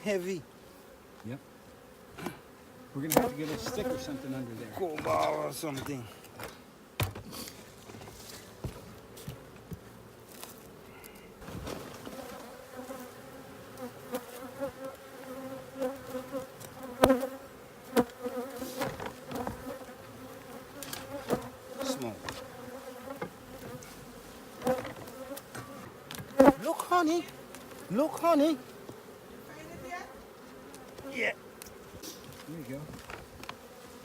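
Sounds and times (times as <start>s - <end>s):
honeybee swarm buzzing: 0.0s - 34.0s.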